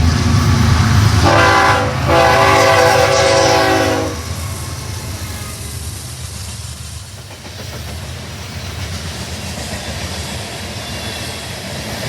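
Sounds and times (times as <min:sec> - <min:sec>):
diesel locomotive rumble: 0:00.0 - 0:12.0
train wheels rolling on rails: 0:00.0 - 0:12.0.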